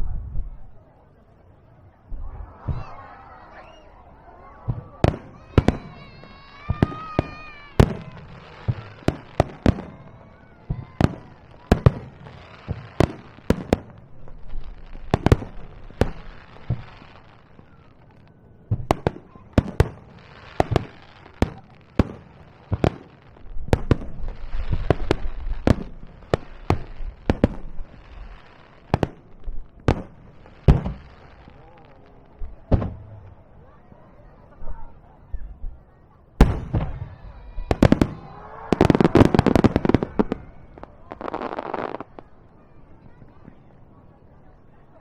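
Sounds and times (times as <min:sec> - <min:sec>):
fireworks booming: 0:02.0 - 0:17.8, 0:18.7 - 0:33.4, 0:36.4 - 0:42.4
fireworks crackling: 0:02.0 - 0:33.5, 0:36.4 - 0:43.5.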